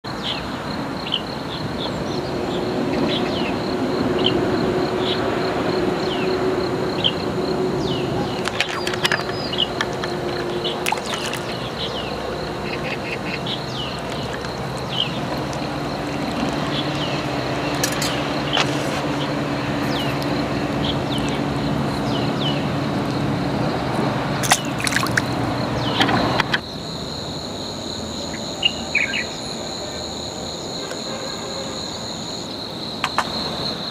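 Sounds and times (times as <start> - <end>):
high-pitched insect trill: 0.1 - 33.9.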